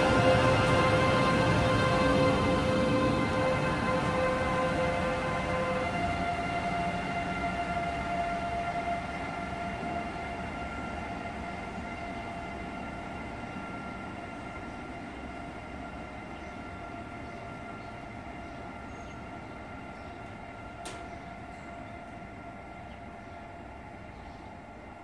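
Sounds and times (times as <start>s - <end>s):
electric train whine: 0.0s - 25.0s
train low rumble: 0.0s - 25.0s.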